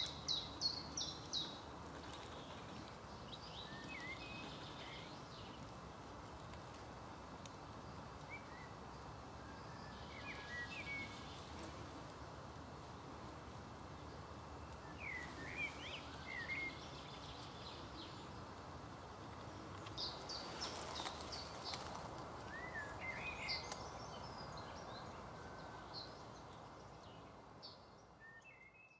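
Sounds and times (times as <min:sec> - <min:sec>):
small birds chirping: 0:00.0 - 0:11.9, 0:13.8 - 0:28.9
outdoor background noise: 0:00.0 - 0:28.9.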